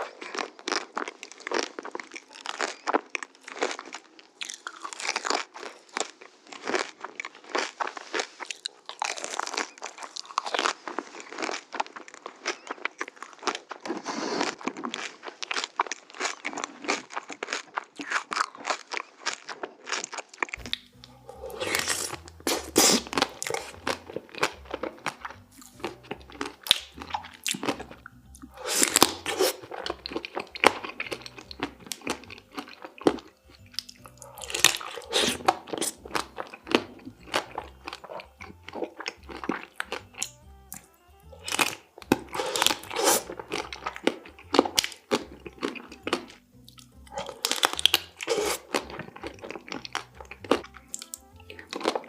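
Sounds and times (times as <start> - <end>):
crunching and chewing candy: 0.0 - 52.0.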